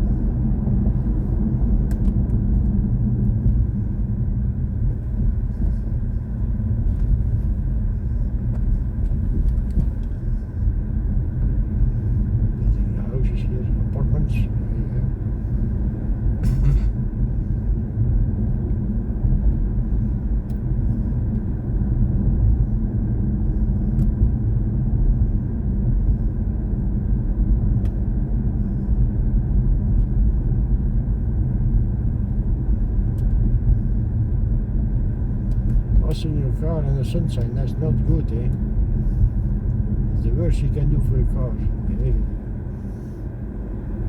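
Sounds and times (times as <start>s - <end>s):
road and tyre noise: 0.0s - 44.0s.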